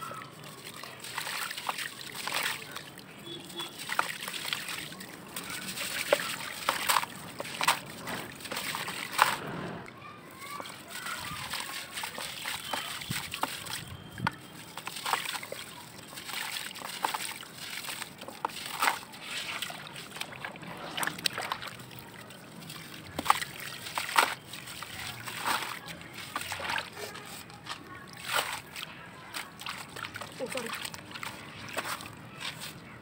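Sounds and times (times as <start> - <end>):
water splashing and sloshing: 0.0 - 33.0.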